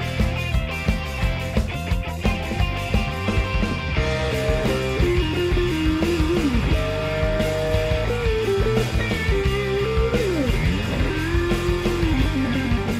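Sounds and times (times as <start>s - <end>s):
rock guitar instrumental music: 0.0s - 12.9s.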